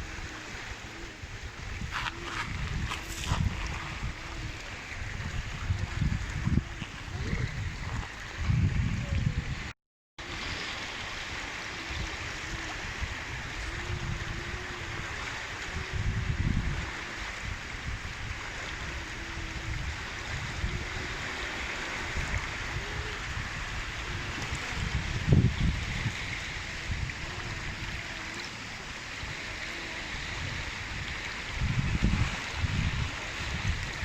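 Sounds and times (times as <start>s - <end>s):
small waves lapping: 0.0s - 34.0s
wind rumble on microphone: 0.0s - 34.0s.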